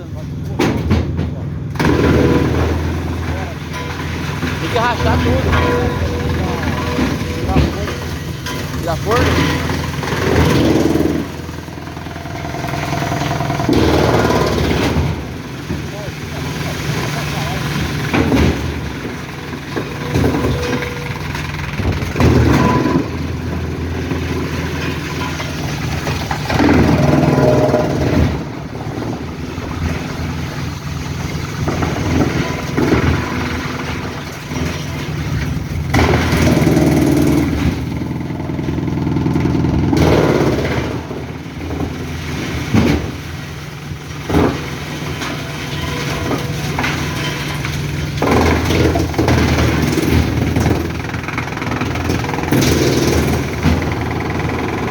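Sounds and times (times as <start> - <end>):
chipper knives splitting logs: 0.0 - 54.9
wood chipper engine drone: 0.0 - 54.9.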